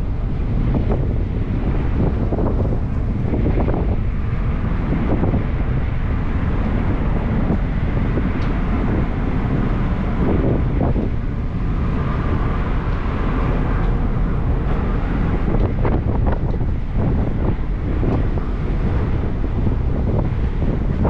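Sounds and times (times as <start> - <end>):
ferry low rumble: 0.0 - 21.0
wind buffeting microphone: 0.0 - 21.0.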